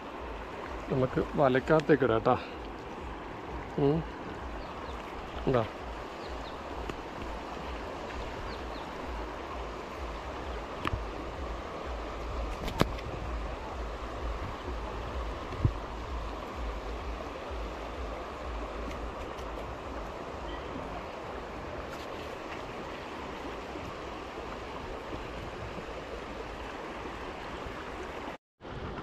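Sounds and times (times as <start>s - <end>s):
river water flowing over rocks: 0.0s - 29.0s.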